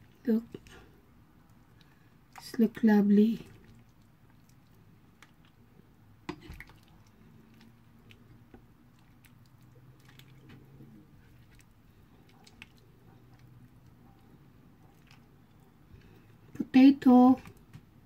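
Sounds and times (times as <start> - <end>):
wet squishing of ladled food: 0.0 - 16.6.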